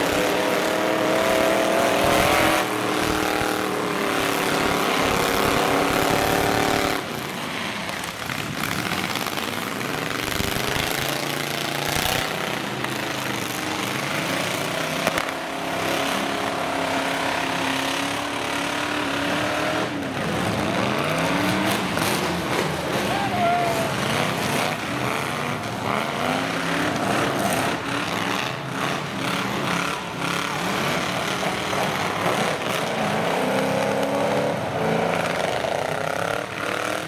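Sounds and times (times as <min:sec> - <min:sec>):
truck engines revving: 0:00.0 - 0:37.0.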